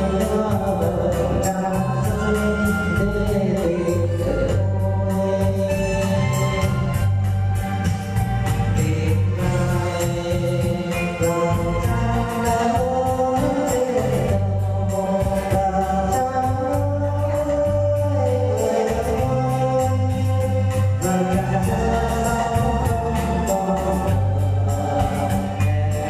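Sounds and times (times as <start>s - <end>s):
bass line: 0.0s - 26.0s
electronic keyboard organ music: 0.0s - 26.0s
regular beat: 0.0s - 26.0s.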